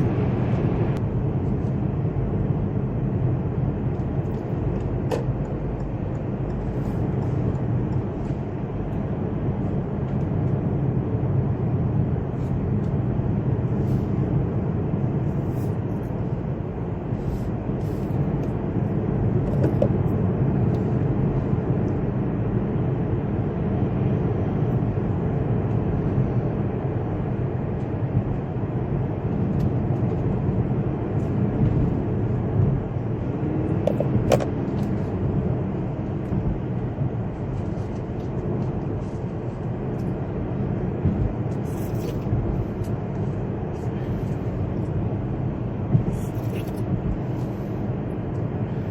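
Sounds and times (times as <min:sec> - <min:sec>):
road and wind noise in car: 0:00.0 - 0:48.9.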